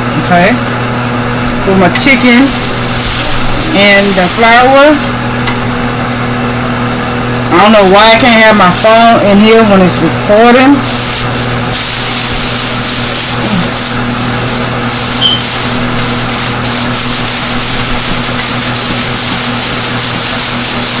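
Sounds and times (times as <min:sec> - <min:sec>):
stove fan whirring: 0:00.0 - 0:21.0.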